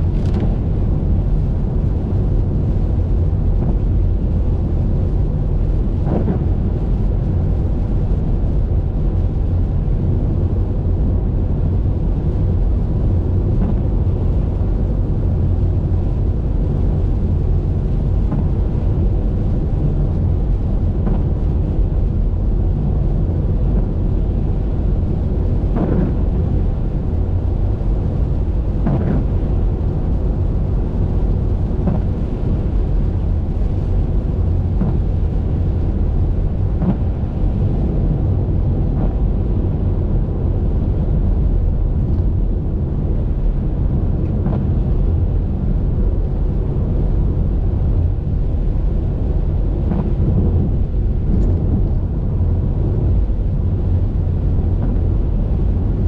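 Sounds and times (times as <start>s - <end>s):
car driving in rain: 0.0s - 56.0s.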